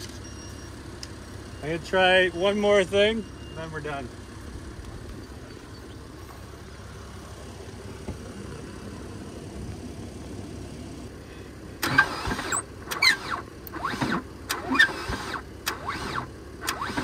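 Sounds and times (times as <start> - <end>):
low steady rumble: 0.0 - 16.9
car engine turning over: 0.0 - 17.0.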